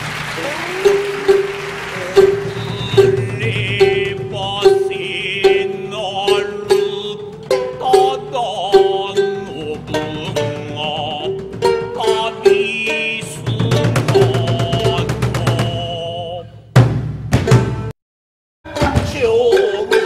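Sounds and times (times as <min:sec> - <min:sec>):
shamisen plucked melody: 0:00.4 - 0:15.2, 0:18.7 - 0:20.0.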